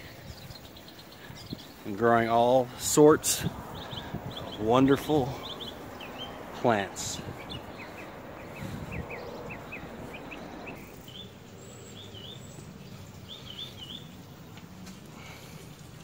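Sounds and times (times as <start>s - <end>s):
small birds chirping: 0.0s - 16.0s
steady outdoor hiss: 0.0s - 16.0s.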